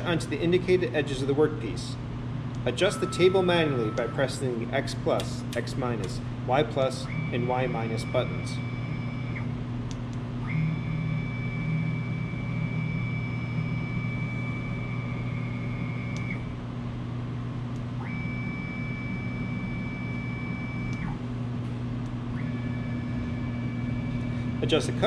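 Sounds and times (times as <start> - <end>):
axis drive whining: 0.0 - 25.0
mill spindle humming: 0.0 - 25.0.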